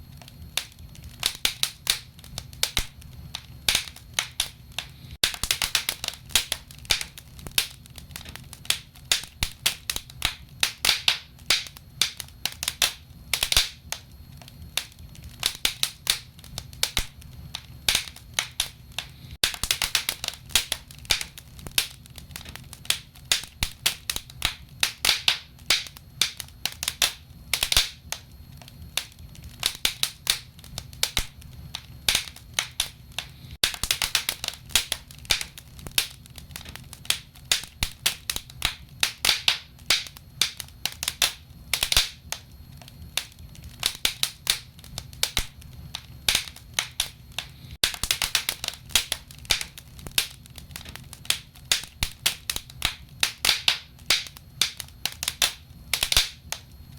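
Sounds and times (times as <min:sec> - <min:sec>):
low rumble of burning: 0:00.0 - 0:56.9
wood fire crackling: 0:00.0 - 0:56.9.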